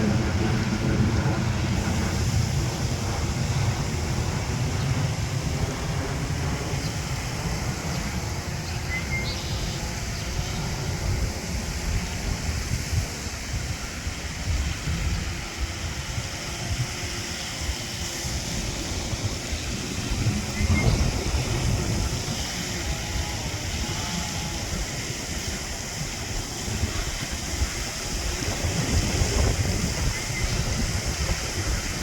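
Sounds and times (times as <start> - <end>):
steady hiss: 0.0 - 32.0
wind buffeting microphone: 0.0 - 32.0.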